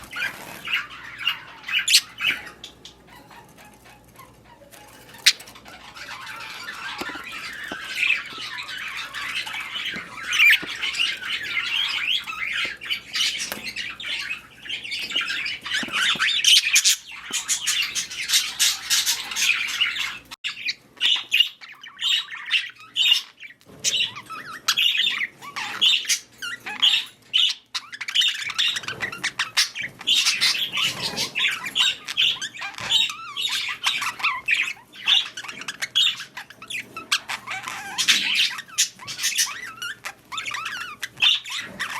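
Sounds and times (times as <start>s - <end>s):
budgerigars chattering and squawking: 0.0s - 41.9s.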